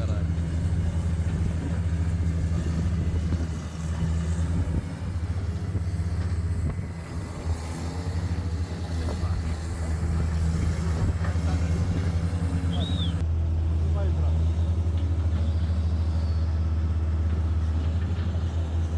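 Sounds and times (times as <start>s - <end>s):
heavy machinery engine running: 0.0s - 18.9s.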